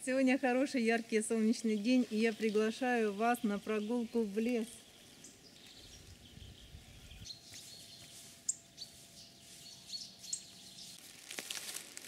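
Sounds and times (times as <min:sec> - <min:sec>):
small birds chirping: 0:00.2 - 0:11.1.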